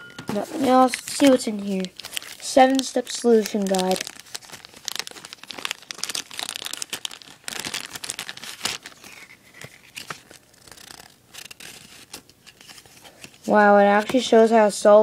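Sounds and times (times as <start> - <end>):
plastic wrapper crinkling: 0.3 - 14.2
paper booklet pulled out: 0.5 - 13.6.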